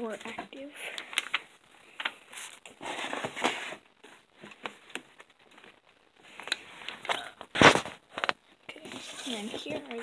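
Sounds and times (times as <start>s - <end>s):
plastic wrappers crinkling: 0.2s - 8.4s.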